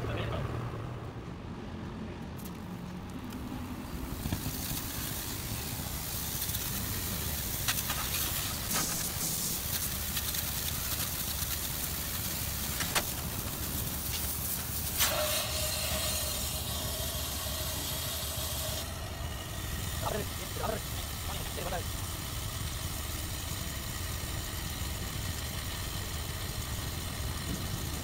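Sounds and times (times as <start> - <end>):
pressure-washer motor hum: 3.6 - 28.0
high-pressure water jet hissing: 3.7 - 28.0.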